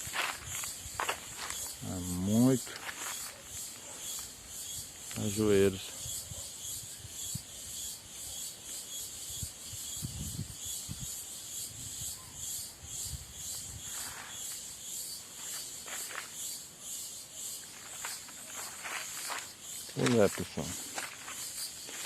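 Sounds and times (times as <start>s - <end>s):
cicadas chorus: 0.0s - 22.0s.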